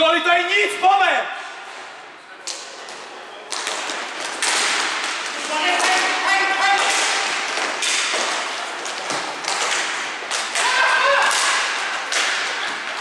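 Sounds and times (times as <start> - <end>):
hockey sticks and ball clacking: 1.7 - 13.0.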